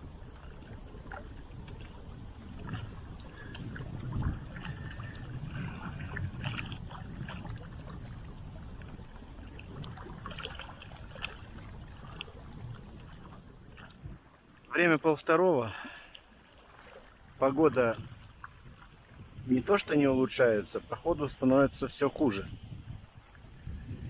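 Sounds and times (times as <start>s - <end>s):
wind buffeting microphone: 0.0s - 14.6s, 16.8s - 24.0s
small waves lapping on rocks: 0.0s - 24.0s.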